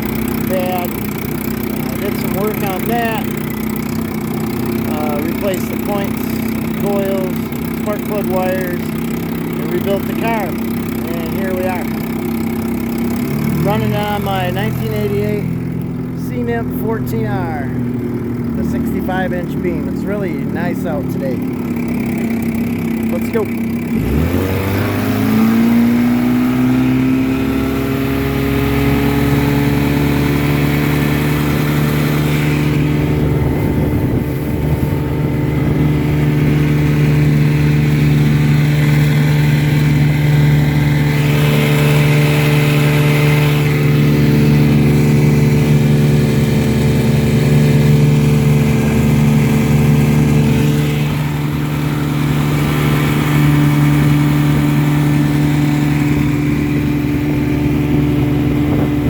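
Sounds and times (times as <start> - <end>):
outboard motor at full throttle: 0.0 - 59.0.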